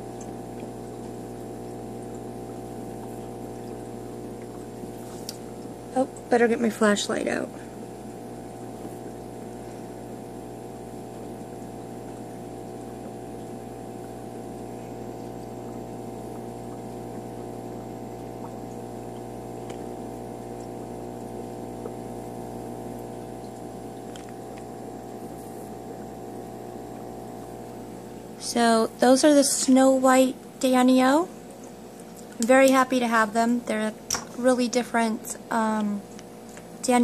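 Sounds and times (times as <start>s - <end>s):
aquarium pump humming: 0.0s - 37.0s.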